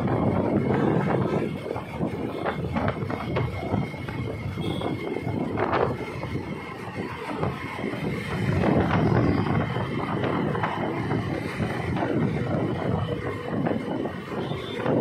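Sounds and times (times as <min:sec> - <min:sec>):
traffic noise: 0:00.0 - 0:15.0
wind rushing over microphone: 0:00.0 - 0:15.0.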